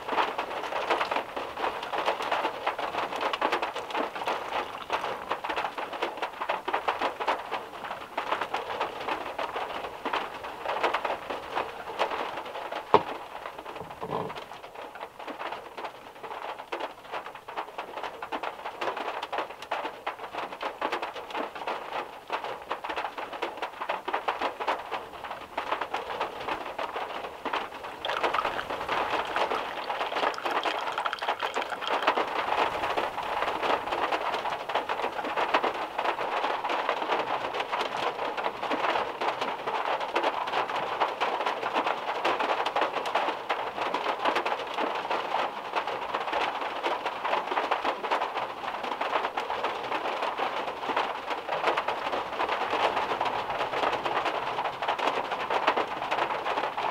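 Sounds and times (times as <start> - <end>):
heavy rain on a metal car roof: 0.0 - 56.9.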